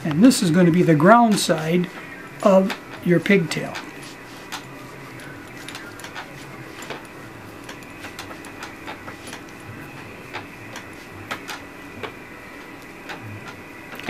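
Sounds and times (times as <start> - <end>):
faint steady hum: 0.0 - 14.0
wire strands clicking and rustling: 0.0 - 14.0.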